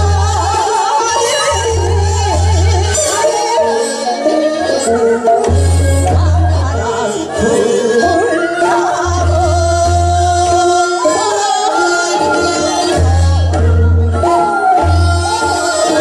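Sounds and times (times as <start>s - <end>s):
women singing folk song: 0.0s - 16.0s.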